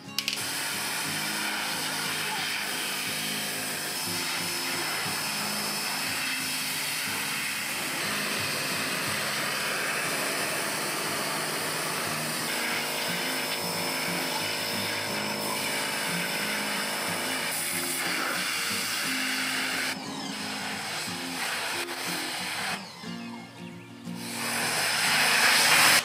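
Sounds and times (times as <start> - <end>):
pressure washer running: 0.0 - 26.0
water jet hissing on metal: 0.4 - 22.8, 24.3 - 26.0.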